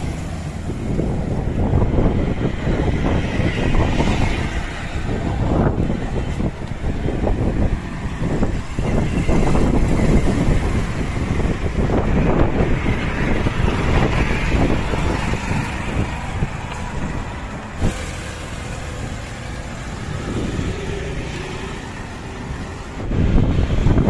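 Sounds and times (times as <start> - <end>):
passing road traffic: 0.0 - 24.0
wind rumbling on microphone: 0.0 - 24.0.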